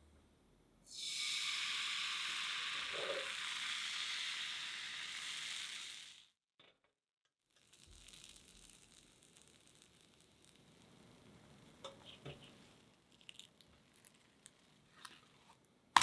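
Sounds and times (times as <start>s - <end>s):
batter sizzling in a pan: 0.9s - 6.4s, 7.5s - 15.0s.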